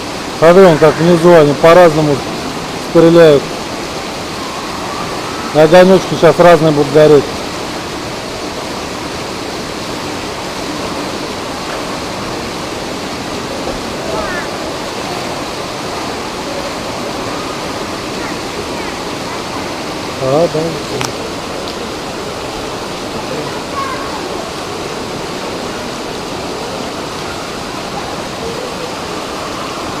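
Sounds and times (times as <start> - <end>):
water falling into fountain basin: 0.0 - 30.0.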